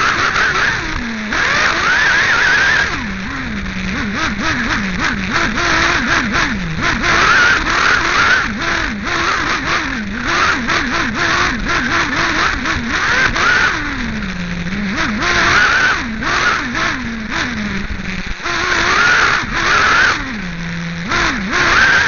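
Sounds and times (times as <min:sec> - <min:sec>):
model engine revving: 0:00.0 - 0:22.0.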